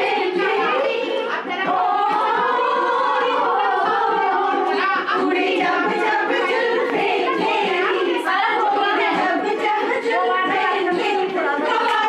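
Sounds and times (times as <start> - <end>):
people talking: 0.0 - 12.0
women singing unaccompanied: 0.0 - 12.0.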